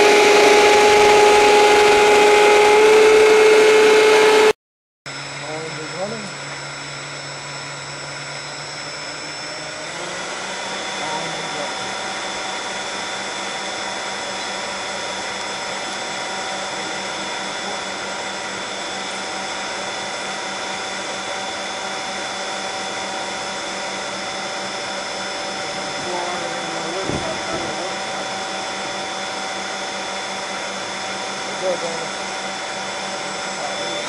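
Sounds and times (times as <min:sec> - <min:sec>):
electric ducted fans whining: 0:00.0 - 0:04.5, 0:05.1 - 0:34.0.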